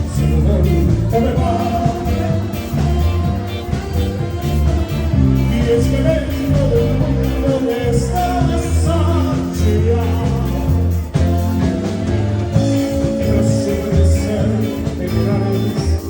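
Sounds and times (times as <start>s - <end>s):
bass line: 0.0s - 16.0s
live band playing: 0.0s - 16.0s
person singing: 0.0s - 16.0s.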